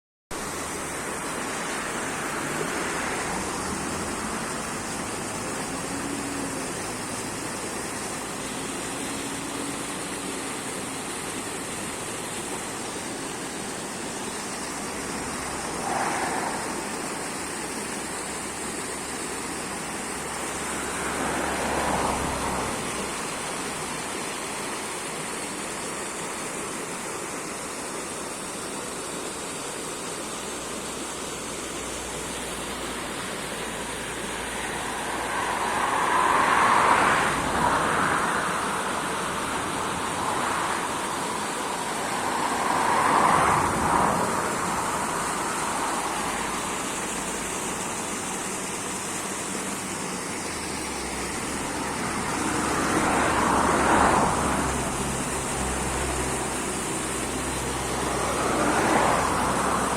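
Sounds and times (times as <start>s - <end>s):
flowing water rushing: 0.3s - 59.9s.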